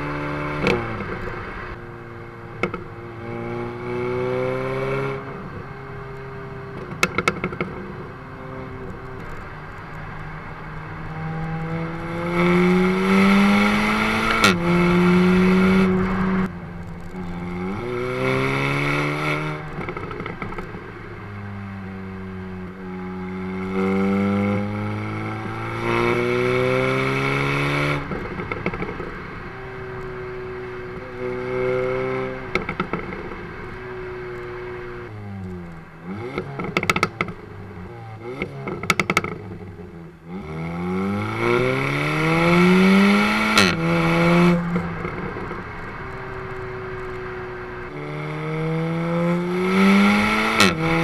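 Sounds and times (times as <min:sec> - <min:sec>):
car exhaust revving: 0:02.5 - 0:51.0
exhaust crack: 0:06.7 - 0:10.0, 0:11.0 - 0:51.0.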